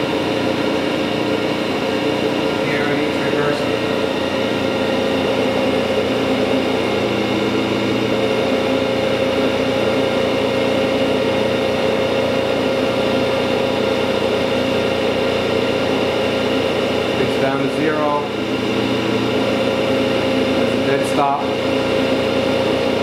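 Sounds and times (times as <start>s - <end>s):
grinding machine humming: 0.0s - 23.0s.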